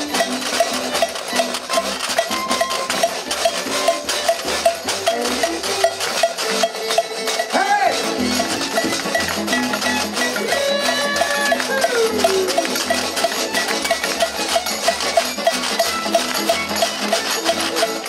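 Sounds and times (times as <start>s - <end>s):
banjo: 0.0s - 18.0s
clicking beat: 0.0s - 18.0s
fiddle: 0.0s - 18.0s
guitar: 0.0s - 18.0s.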